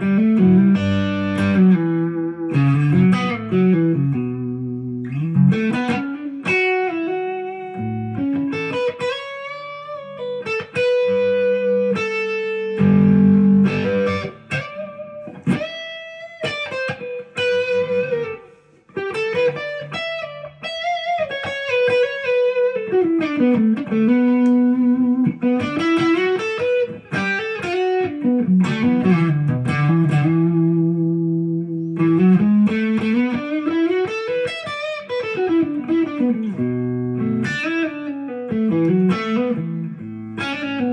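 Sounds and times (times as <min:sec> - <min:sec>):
electric guitar melody: 0:00.0 - 0:40.9.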